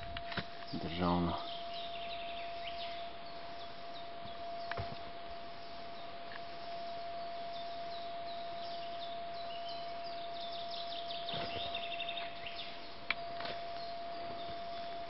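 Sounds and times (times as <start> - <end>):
faint constant tone: 0.0 - 15.0
small songbirds singing: 0.0 - 15.0
steady hiss: 0.0 - 15.0.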